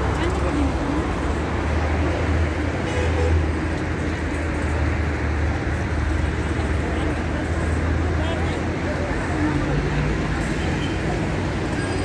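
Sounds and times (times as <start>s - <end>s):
highway traffic: 0.0s - 12.0s.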